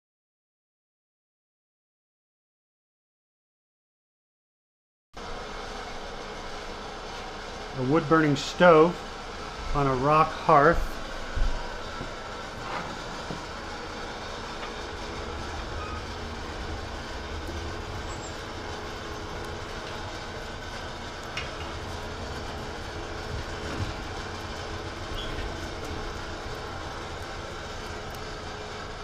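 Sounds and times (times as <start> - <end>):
fire crackling: 5.5 - 29.0
wood fire rushing: 5.5 - 29.0.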